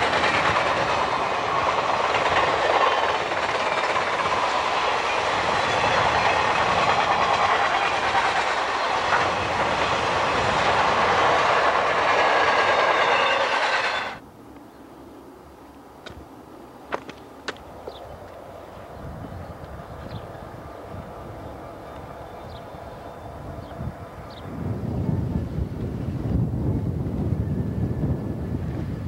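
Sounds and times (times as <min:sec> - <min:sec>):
freight train rattling on rails: 0:00.0 - 0:14.2, 0:16.9 - 0:29.0.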